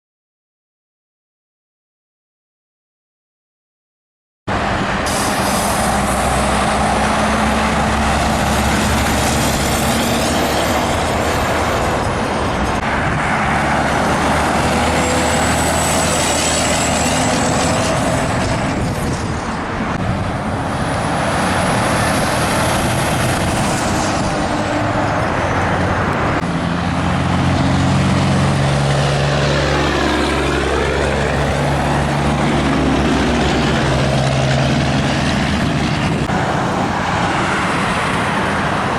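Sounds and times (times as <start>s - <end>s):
high vehicle whines: 4.5s - 38.9s
highway traffic passing: 4.5s - 38.9s.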